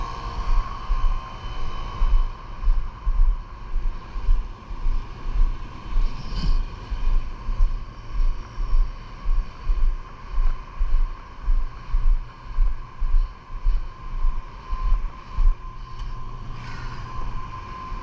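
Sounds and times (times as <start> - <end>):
machine hum with faint whine: 0.0 - 18.0.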